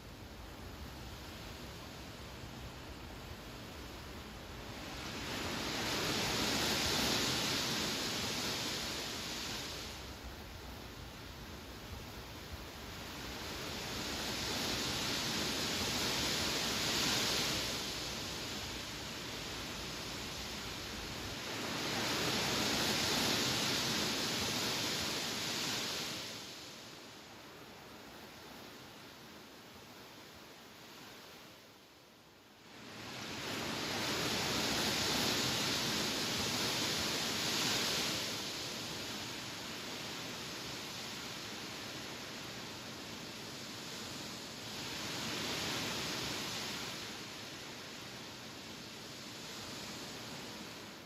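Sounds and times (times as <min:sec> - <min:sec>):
wind blowing through grass: 0:00.0 - 0:51.0.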